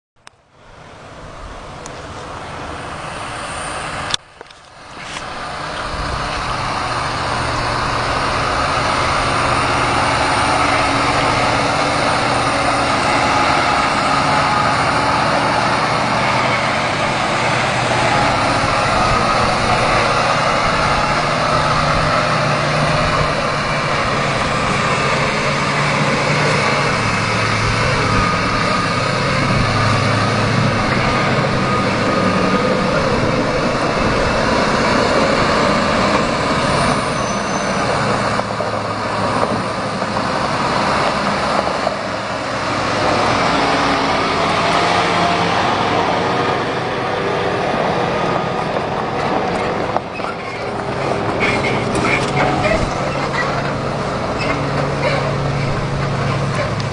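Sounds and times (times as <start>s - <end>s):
diesel truck engine running: 0.3s - 56.9s.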